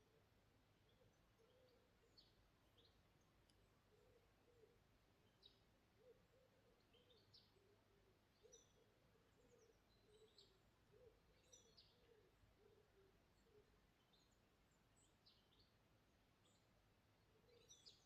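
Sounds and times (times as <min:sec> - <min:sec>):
small birds chirping: 0:00.8 - 0:15.8, 0:17.4 - 0:18.0.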